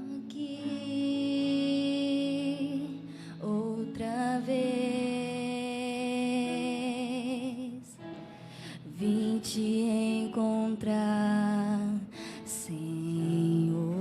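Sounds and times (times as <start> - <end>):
person singing slow worship song: 0.0 - 14.0.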